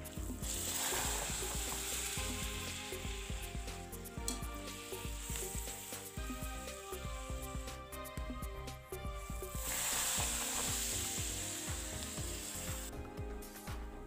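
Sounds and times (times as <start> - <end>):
papadam sizzling in hot oil: 0.0 - 13.0.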